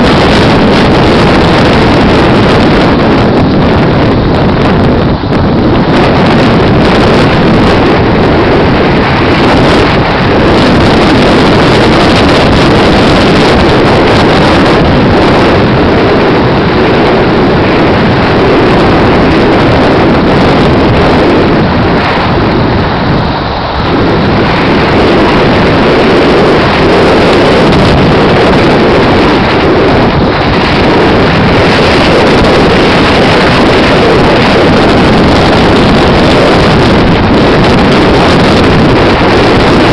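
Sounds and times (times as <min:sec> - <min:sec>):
road noise: 0:00.0 - 0:39.9
vehicle engine: 0:00.0 - 0:39.9
wind rushing over microphone: 0:00.0 - 0:39.9.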